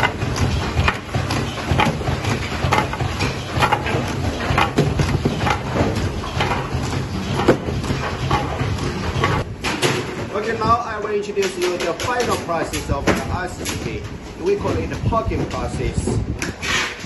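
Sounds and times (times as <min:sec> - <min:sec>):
low machine hum: 0:00.0 - 0:16.4
machine pad stamping clack: 0:00.0 - 0:17.0.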